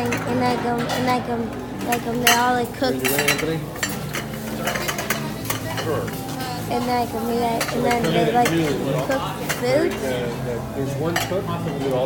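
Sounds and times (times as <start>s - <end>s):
plates and utensils clattering: 0.0s - 12.0s
voices in background: 0.0s - 12.0s
frying sizzle: 1.8s - 12.0s.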